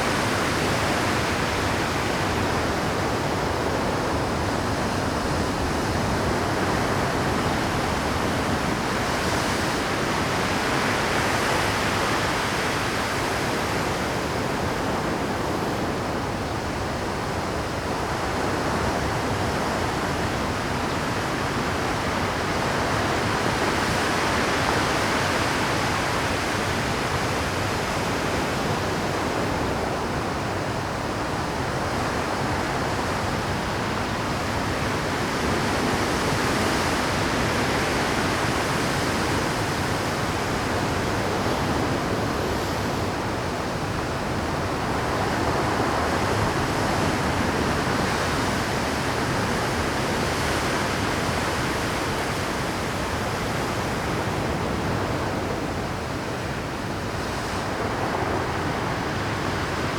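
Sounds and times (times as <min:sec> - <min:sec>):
surf crashing on rocky shore: 0:00.0 - 0:59.9.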